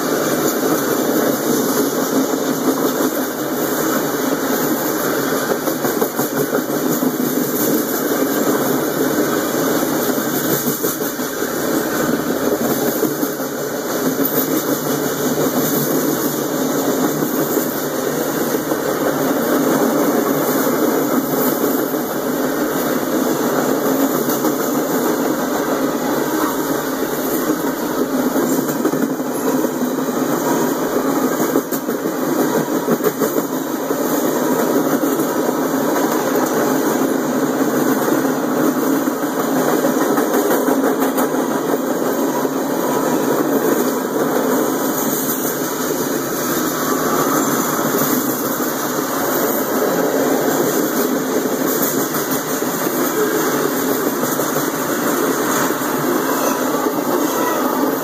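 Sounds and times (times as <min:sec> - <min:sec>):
train wheels running on rails: 0:00.0 - 0:58.0.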